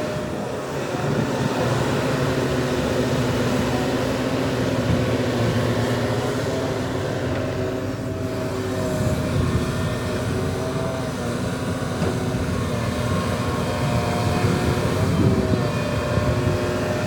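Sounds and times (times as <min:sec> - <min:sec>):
heavy diesel machinery engine hum: 0:00.0 - 0:17.0.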